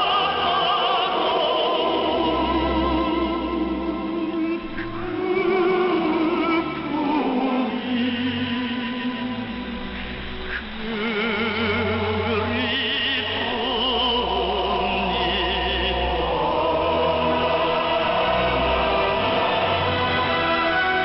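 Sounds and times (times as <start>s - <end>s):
orchestral accompaniment: 0.0s - 21.0s.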